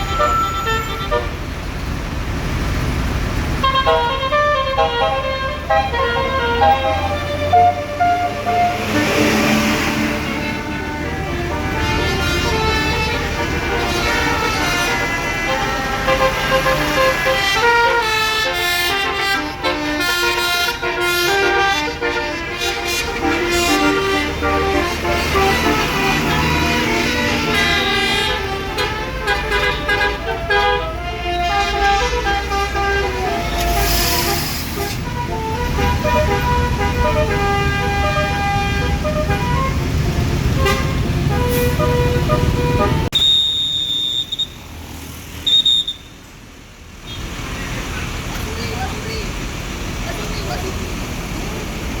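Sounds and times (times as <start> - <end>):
bus horn playing melody: 0.0 - 1.6, 3.6 - 44.5
bus engine rumble: 0.0 - 52.0.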